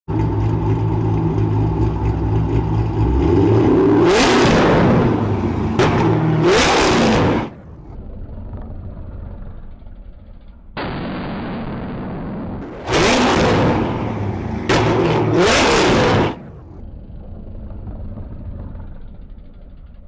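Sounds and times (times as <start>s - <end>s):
car engine revving: 0.1s - 9.9s, 12.6s - 19.4s.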